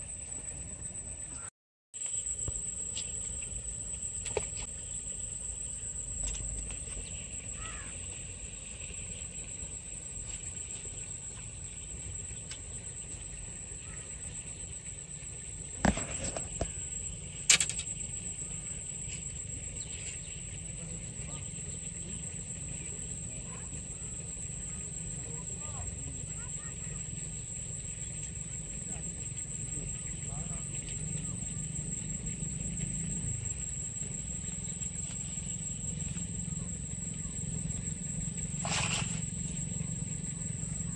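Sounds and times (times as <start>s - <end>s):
high-pitched insect whine: 0.0s - 40.9s.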